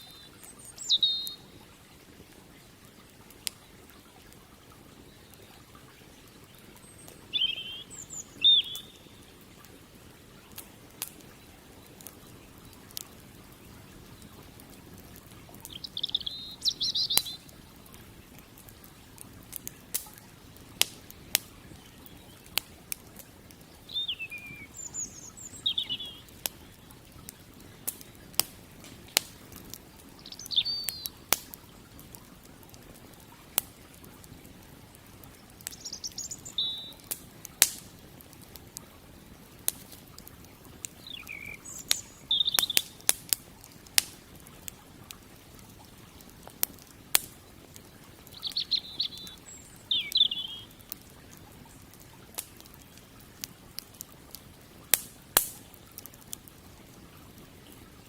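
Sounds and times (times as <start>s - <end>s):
small birds chirping: 0.0s - 52.8s
campfire crackling and popping: 0.0s - 58.0s.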